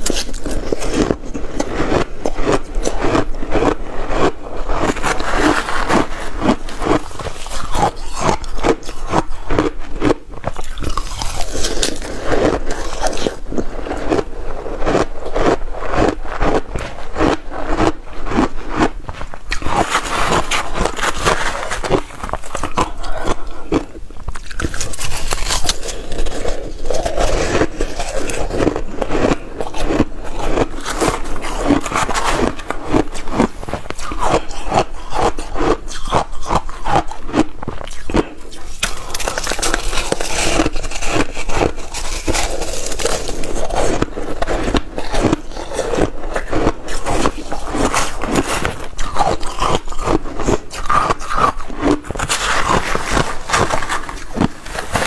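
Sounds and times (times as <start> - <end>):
chewing crushed ice: 0.0 - 55.0.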